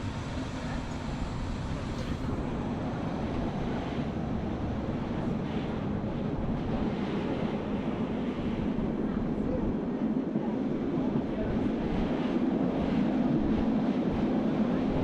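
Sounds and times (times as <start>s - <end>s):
train running rumble: 0.0s - 15.0s
wind buffeting microphone: 0.0s - 15.0s.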